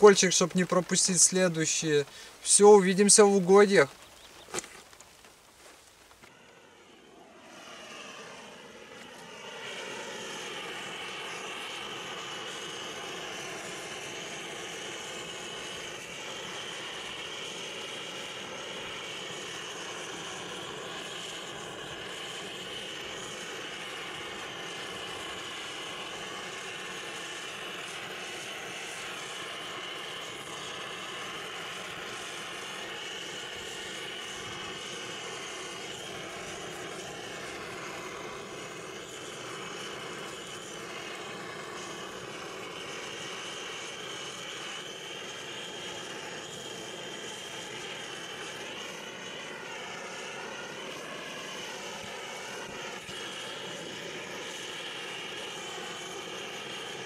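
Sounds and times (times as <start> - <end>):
gas torch hissing: 0.0 - 57.0.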